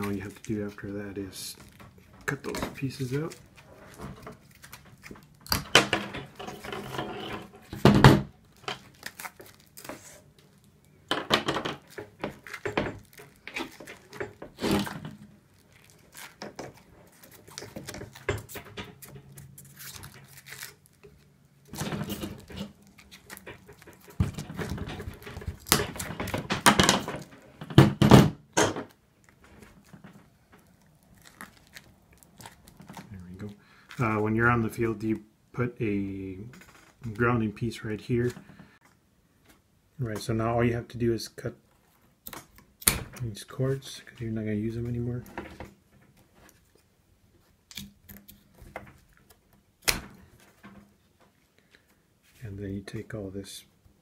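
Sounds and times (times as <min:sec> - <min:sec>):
crinkling and rustling: 0:00.0 - 0:35.2, 0:35.9 - 0:40.5, 0:41.6 - 0:53.9.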